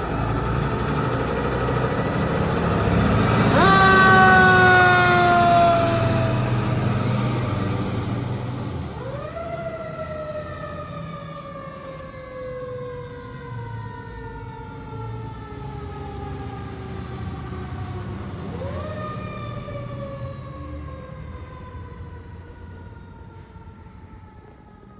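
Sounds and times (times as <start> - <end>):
fire truck siren wailing: 0.0 - 24.9.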